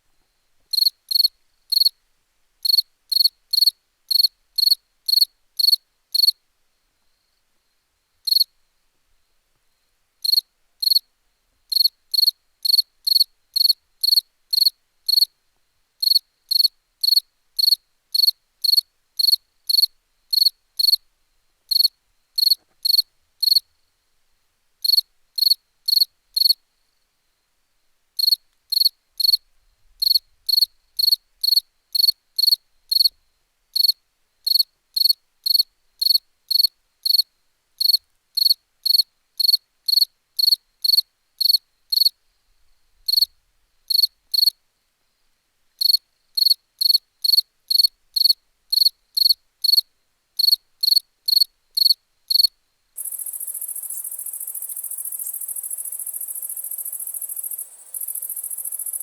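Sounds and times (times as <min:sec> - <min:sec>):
continuous insect trill: 0:00.7 - 0:02.0, 0:02.6 - 0:06.4, 0:07.1 - 0:08.6, 0:09.8 - 0:11.1, 0:11.7 - 0:15.4, 0:16.0 - 0:21.0, 0:21.7 - 0:24.0, 0:24.8 - 0:59.0
cricket chirping: 0:00.7 - 0:02.0, 0:02.6 - 0:06.4, 0:07.1 - 0:08.5, 0:09.7 - 0:11.1, 0:11.7 - 0:15.3, 0:16.0 - 0:21.0, 0:21.7 - 0:23.8, 0:24.8 - 0:27.4, 0:28.2 - 0:59.0.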